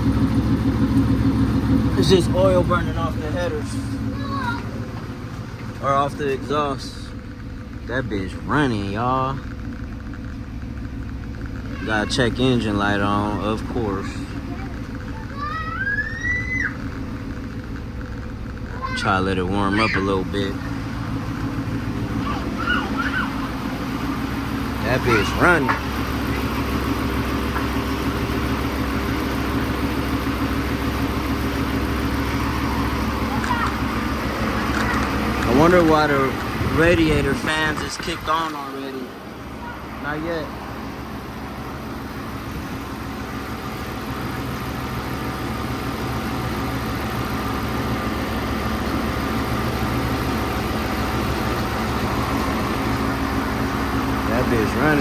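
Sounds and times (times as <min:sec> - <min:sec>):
car engine idling: 0:00.0 - 0:55.0
radiator fans running: 0:10.5 - 0:55.0.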